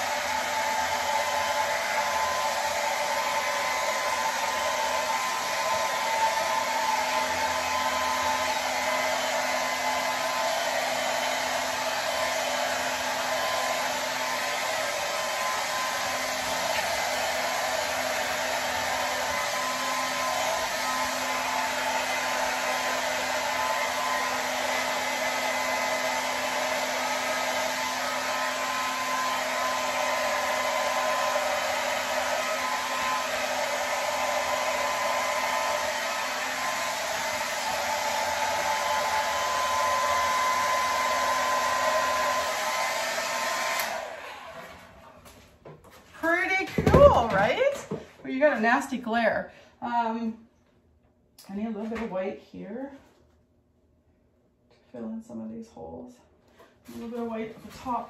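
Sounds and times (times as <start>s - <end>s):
hair dryer running: 0.0s - 45.4s, 46.2s - 50.3s, 51.4s - 52.8s, 56.5s - 58.0s.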